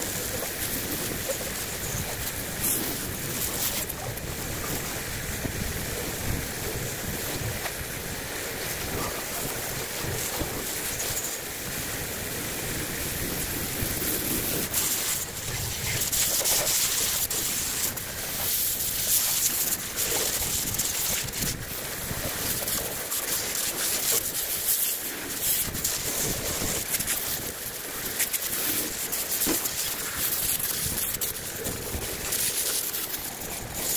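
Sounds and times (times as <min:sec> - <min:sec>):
pressure washer spraying metal: 0:00.0 - 0:11.7, 0:12.3 - 0:21.8, 0:22.4 - 0:33.9.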